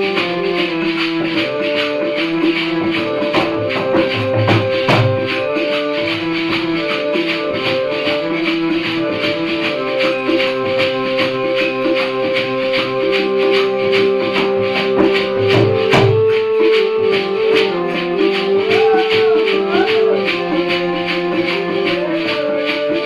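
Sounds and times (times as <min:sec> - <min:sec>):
hand drum steady rhythm: 0:00.0 - 0:23.0
jingling percussion: 0:00.0 - 0:23.0
sustained melody notes: 0:00.0 - 0:23.0.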